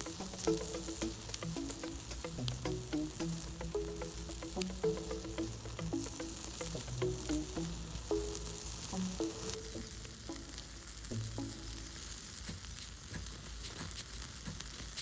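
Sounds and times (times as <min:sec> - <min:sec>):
charcoal crackling: 0:00.0 - 0:15.0
food sizzling over charcoal: 0:00.0 - 0:15.0.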